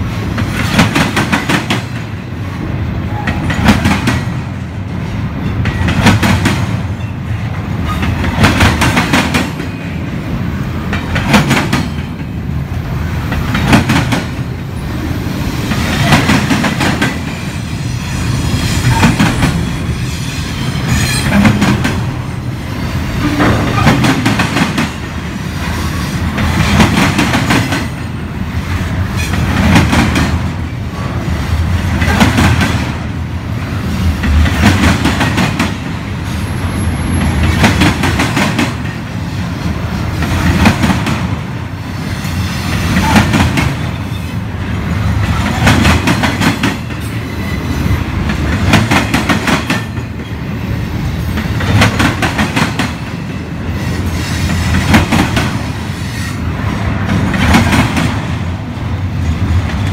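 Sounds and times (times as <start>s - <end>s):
train cars rumbling past: 0.0s - 59.9s.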